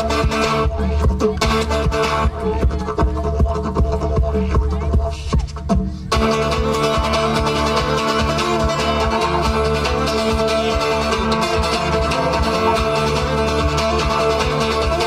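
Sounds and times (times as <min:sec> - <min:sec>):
rapid plucked acoustic guitar: 0:00.0 - 0:15.0.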